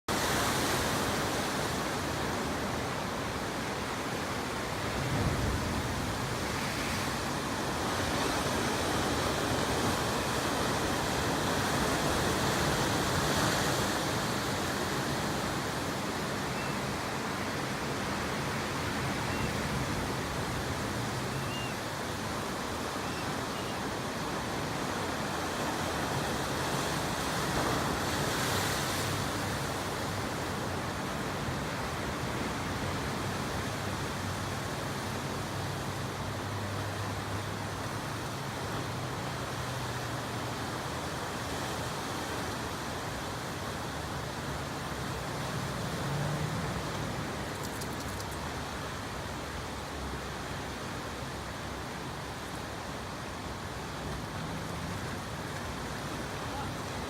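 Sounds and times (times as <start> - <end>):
surf washing against shore: 0.1 - 57.0.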